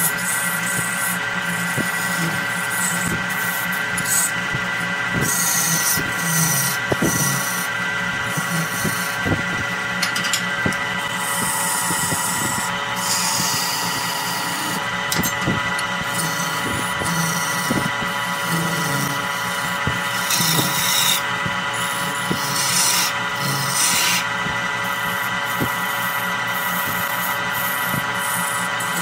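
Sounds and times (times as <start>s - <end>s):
gouge scraping wood: 0.0s - 9.4s, 11.0s - 14.9s, 16.0s - 29.0s
lathe motor whine: 0.0s - 29.0s.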